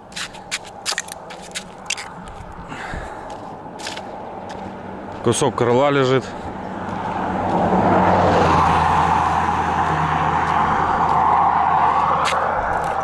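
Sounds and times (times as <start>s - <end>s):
low engine hum: 0.0s - 13.0s
vehicle tyre noise: 0.0s - 13.0s.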